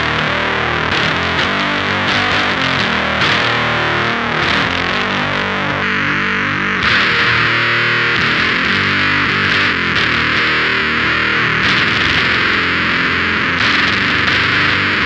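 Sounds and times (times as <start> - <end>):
fuzzed electric guitar chords: 0.0 - 15.0.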